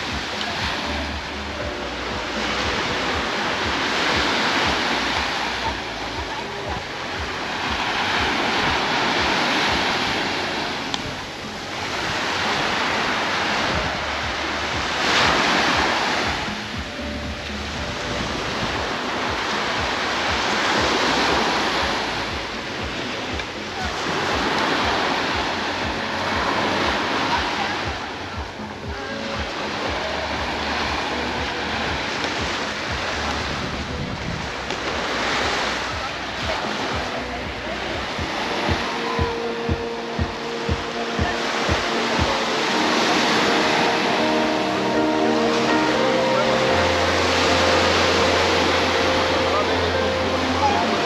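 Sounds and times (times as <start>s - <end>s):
small waves breaking on shore: 0.0s - 51.0s
wind on microphone: 0.0s - 51.0s.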